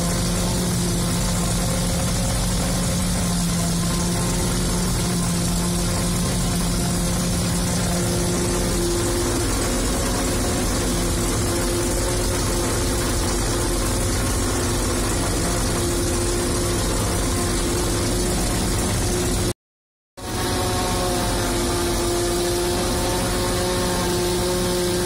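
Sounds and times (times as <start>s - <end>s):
cutting machinery noise: 0.0s - 19.6s, 20.2s - 25.0s
engine drone: 0.0s - 19.6s, 20.2s - 25.0s.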